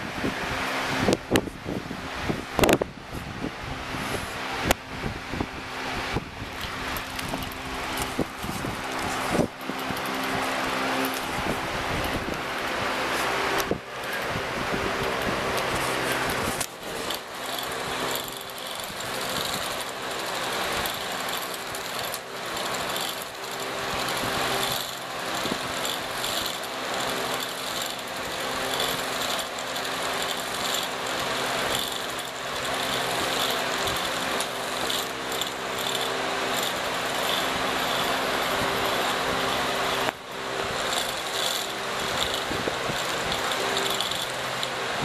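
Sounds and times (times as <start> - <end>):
small motor whirring: 0.0 - 45.0.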